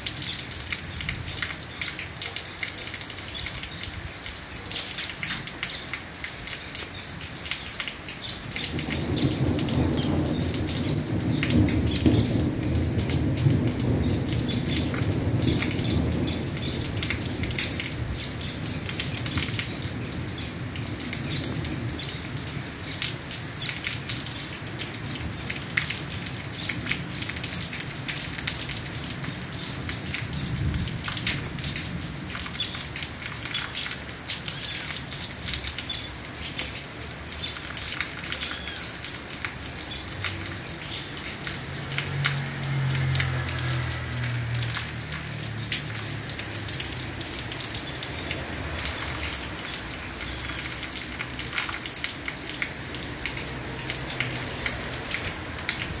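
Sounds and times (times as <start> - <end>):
dripping water: 0.0 - 56.0
steady rain falling: 0.0 - 56.0.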